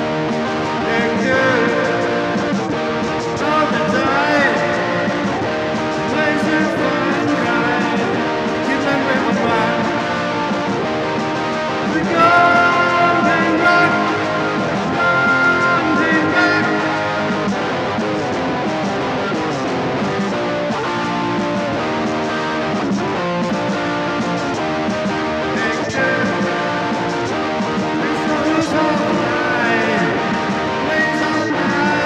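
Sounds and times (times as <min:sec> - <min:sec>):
guitar playing chords: 0:00.0 - 0:32.0.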